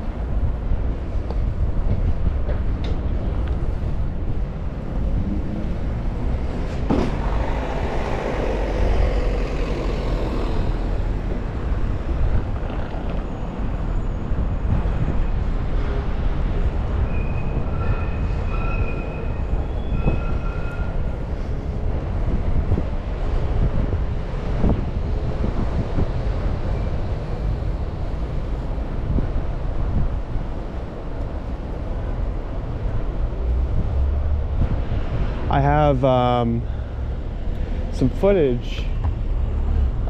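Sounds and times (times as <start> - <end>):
wind rumble on microphone: 0.0 - 35.6
bicycle road noise: 0.0 - 35.8, 36.4 - 40.0.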